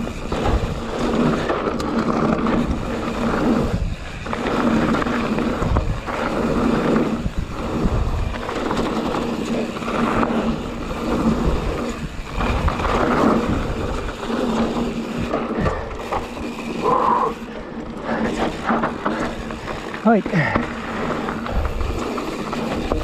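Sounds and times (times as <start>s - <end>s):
bike tyres rumbling on gravel: 0.0s - 23.0s.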